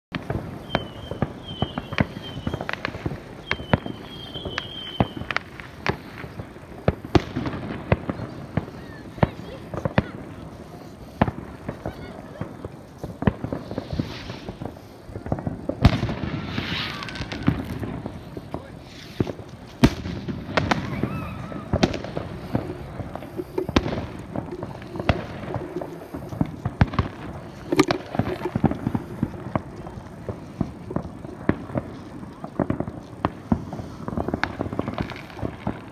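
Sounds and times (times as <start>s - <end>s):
firework whistles: 0.1s - 29.5s
fireworks bangs and pops: 0.1s - 35.9s.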